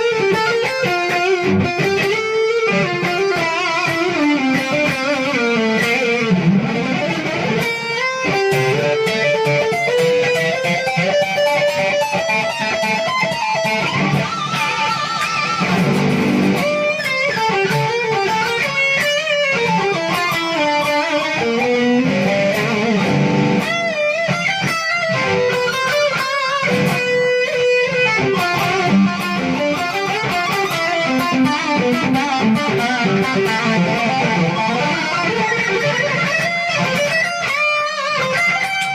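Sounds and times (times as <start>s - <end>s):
electric guitar melody: 0.0s - 38.9s.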